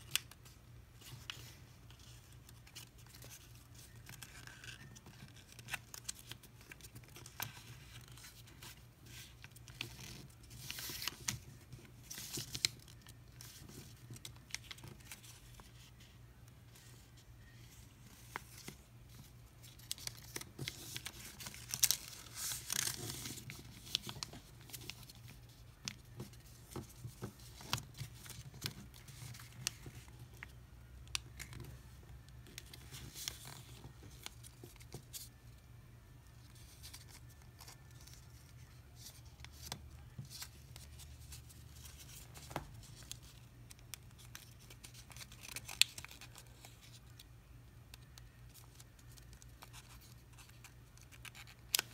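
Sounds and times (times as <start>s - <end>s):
paper being folded and creased: 0.0s - 30.5s, 31.1s - 35.4s, 36.4s - 47.2s, 47.9s - 51.9s.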